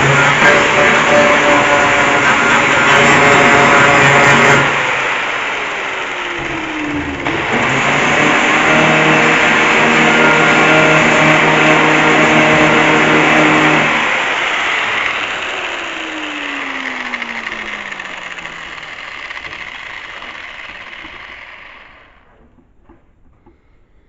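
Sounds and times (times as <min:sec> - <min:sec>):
angle grinder winding down: 0:00.0 - 0:22.5.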